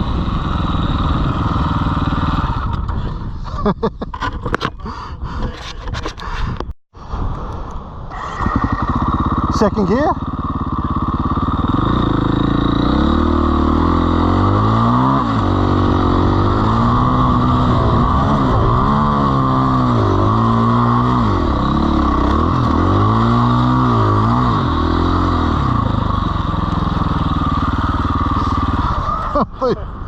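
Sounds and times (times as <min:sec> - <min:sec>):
dirt bike engine revving: 0:00.0 - 0:02.8, 0:08.1 - 0:29.4.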